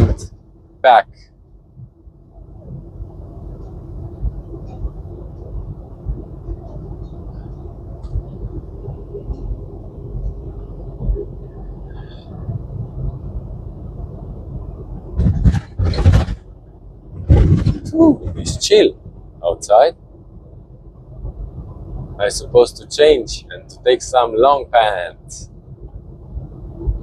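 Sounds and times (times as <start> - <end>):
road noise: 0.0 - 27.0
truck engine rumble: 0.0 - 27.0.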